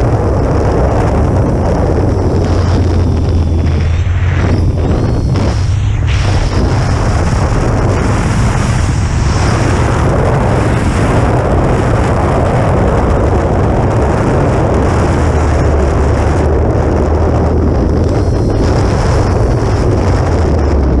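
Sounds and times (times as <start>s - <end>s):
thin high whine: 0.0s - 21.0s
wind buffeting microphone: 0.0s - 21.0s.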